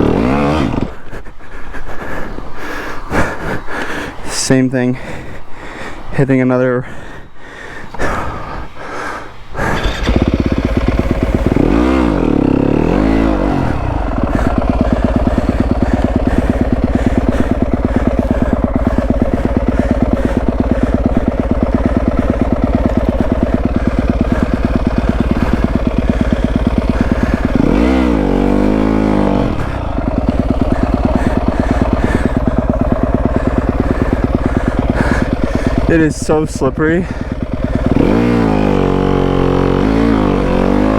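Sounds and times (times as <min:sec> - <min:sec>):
motorcycle engine revving: 0:00.0 - 0:01.3, 0:07.9 - 0:40.9.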